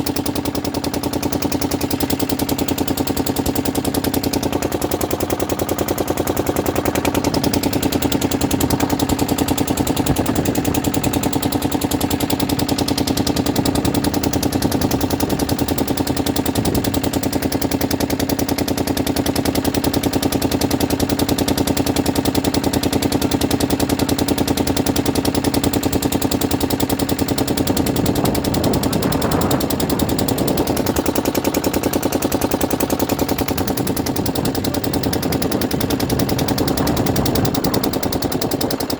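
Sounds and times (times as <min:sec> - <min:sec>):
engine running with rapid knock: 0:00.0 - 0:38.9.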